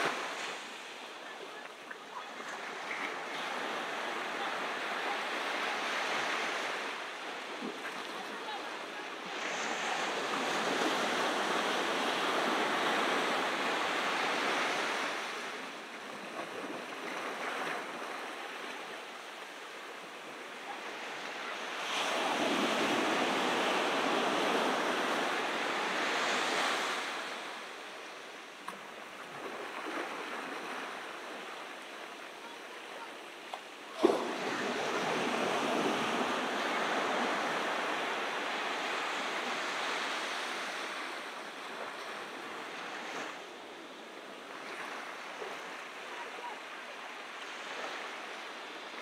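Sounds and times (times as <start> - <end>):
ocean surf breaking: 0.0 - 43.4.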